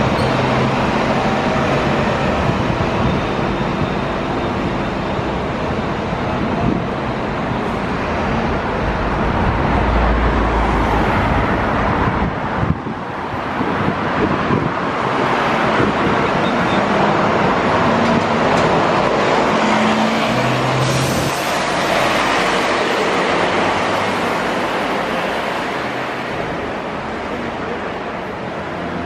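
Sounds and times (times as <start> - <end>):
bus engine hum and tyre noise: 0.0 - 29.0.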